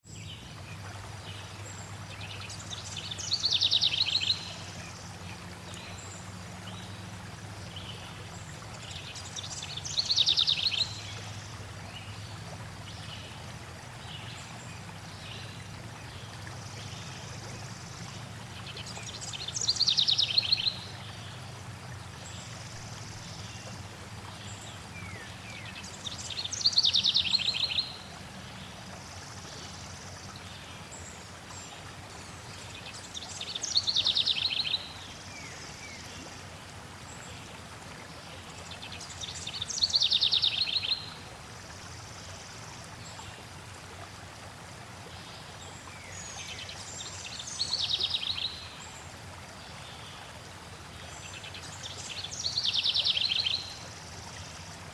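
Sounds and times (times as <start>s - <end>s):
stream water flowing: 0.0s - 54.9s.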